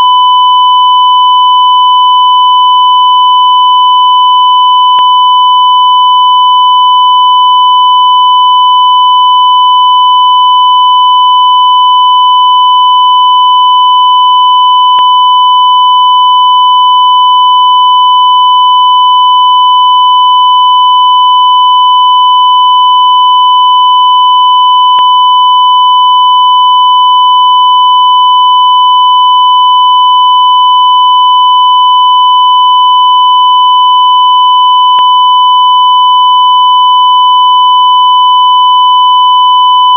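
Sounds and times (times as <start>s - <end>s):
high-pitched censor beep: 0.0s - 39.9s.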